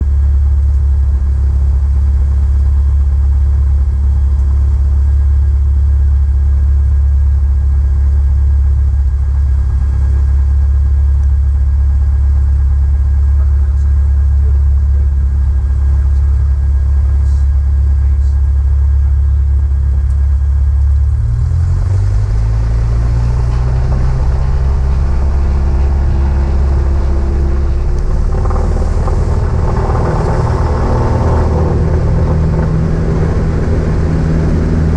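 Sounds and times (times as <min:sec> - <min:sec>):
propeller plane engine drone: 0:00.0 - 0:34.9.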